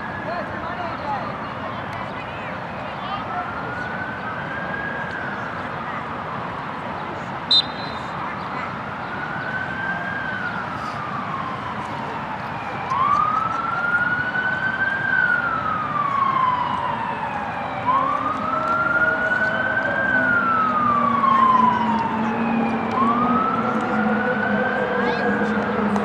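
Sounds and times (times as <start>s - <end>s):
emergency siren wailing: 2.9s - 6.7s, 7.5s - 26.0s.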